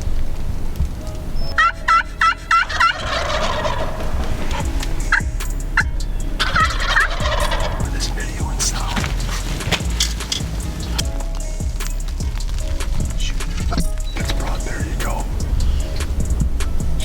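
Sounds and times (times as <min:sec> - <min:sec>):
turkeys gobbling: 0:01.3 - 0:17.0
turkey high notes: 0:01.4 - 0:17.0.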